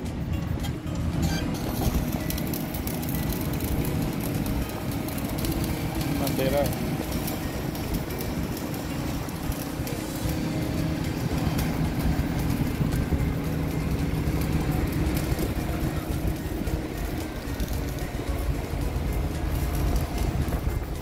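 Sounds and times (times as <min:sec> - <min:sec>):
machinery engine droning: 0:00.0 - 0:21.0.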